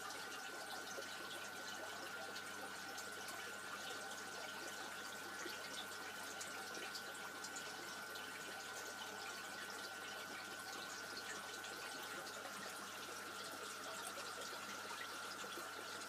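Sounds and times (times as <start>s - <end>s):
aquarium filter water trickling: 0.0s - 16.0s.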